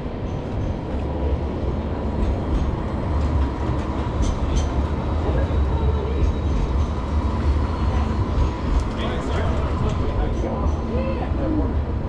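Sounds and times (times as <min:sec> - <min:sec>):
city street noise: 0:00.0 - 0:12.0
tram rumbling past: 0:00.0 - 0:12.0.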